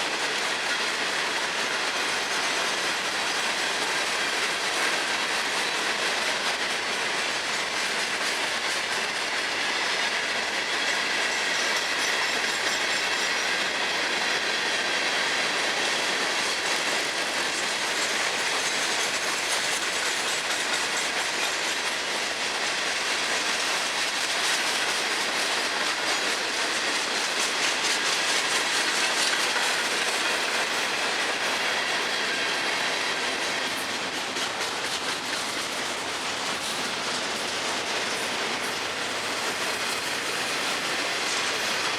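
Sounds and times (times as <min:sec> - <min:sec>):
freight train wheels clattering: 0:00.0 - 0:41.9.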